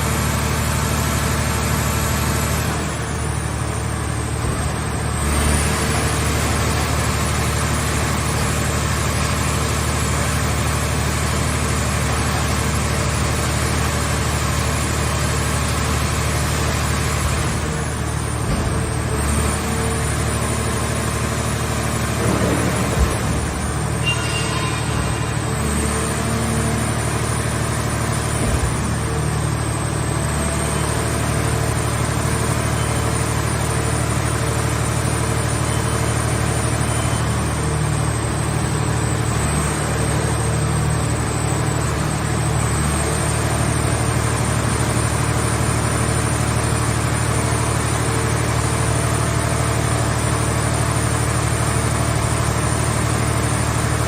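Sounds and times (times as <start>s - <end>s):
engine-like drone with whine: 0.0s - 54.0s.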